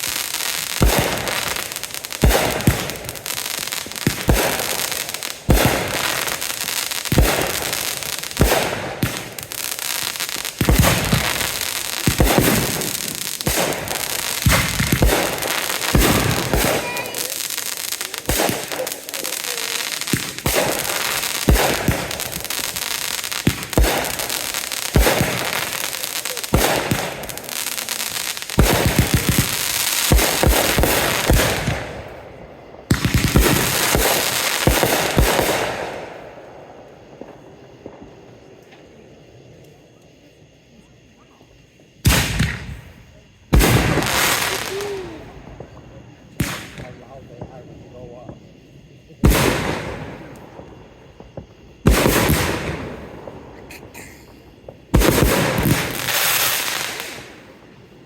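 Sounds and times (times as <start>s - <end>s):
fireworks bangs: 0.0s - 39.7s, 42.0s - 58.0s
fireworks crackling: 0.0s - 41.0s, 41.6s - 58.0s.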